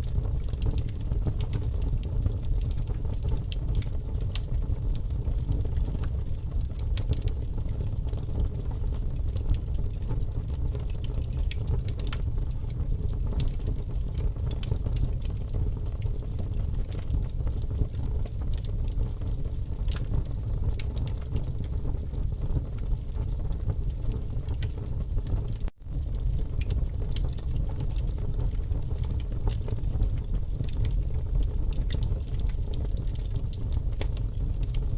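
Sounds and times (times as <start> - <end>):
campfire crackling and popping: 0.0 - 34.9
fire low rumble: 0.0 - 34.9.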